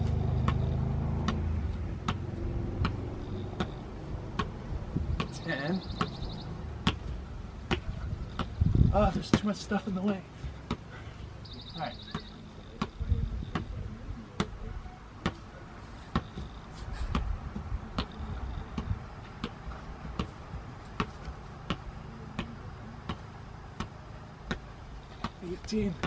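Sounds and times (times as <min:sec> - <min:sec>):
soccer ball headed knocks: 0:00.0 - 0:09.6, 0:12.0 - 0:14.6, 0:16.1 - 0:26.0.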